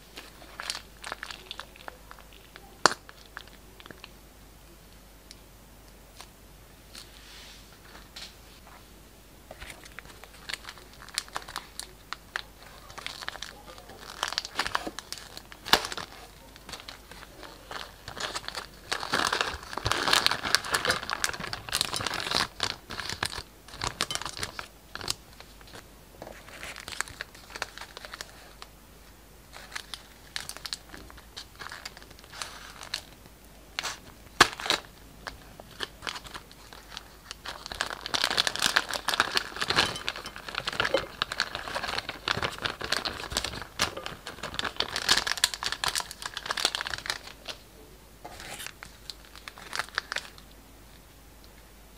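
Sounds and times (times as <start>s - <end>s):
plastic bag crinkling: 0.0s - 4.1s, 9.5s - 28.7s, 29.4s - 47.6s, 48.2s - 50.5s.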